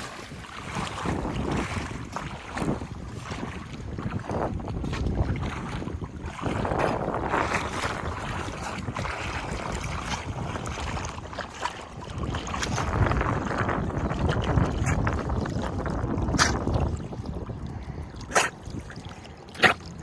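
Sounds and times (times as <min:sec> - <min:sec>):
water washing along shore: 0:00.0 - 0:20.0
wind buffeting microphone: 0:00.0 - 0:20.0.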